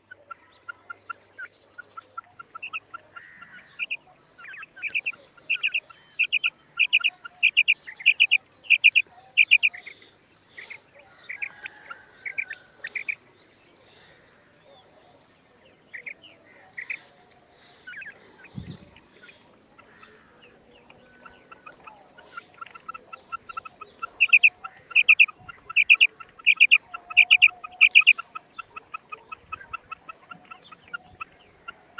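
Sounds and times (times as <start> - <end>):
quail calling: 0.0 - 31.9.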